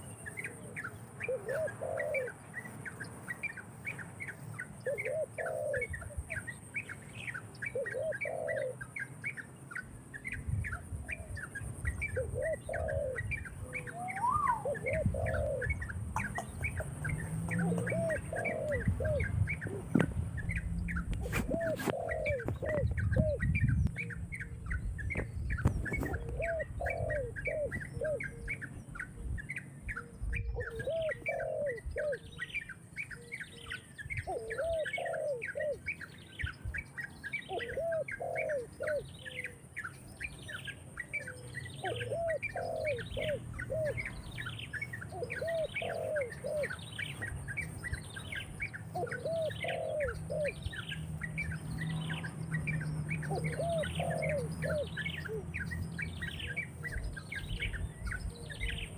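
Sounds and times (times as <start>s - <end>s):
birds chirping: 0.0s - 58.9s
lower arched bird notes: 0.0s - 58.9s.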